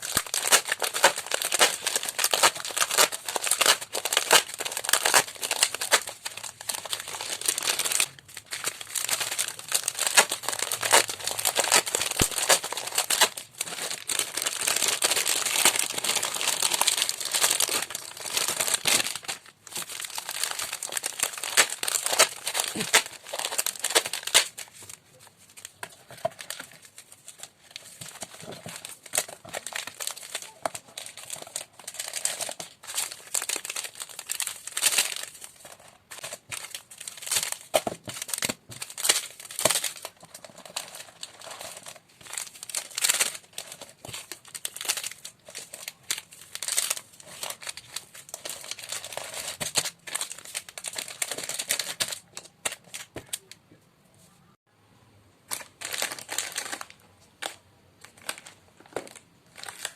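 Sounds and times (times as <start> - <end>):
plastic packaging crinkling: 0.0 - 53.5, 55.5 - 59.9.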